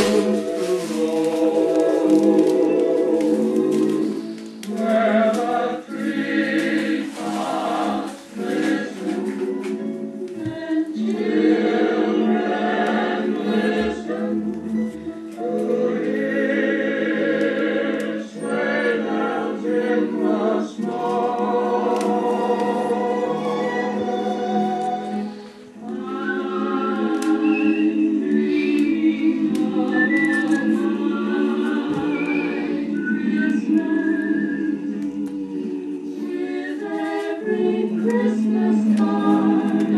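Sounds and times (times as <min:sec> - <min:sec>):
choir singing gospel music: 0:00.0 - 0:39.9
sustained accompaniment: 0:00.0 - 0:39.9.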